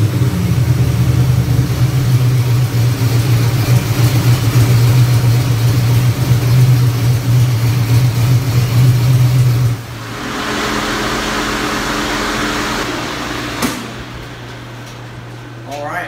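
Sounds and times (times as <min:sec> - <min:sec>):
engine running: 0:00.0 - 0:15.7.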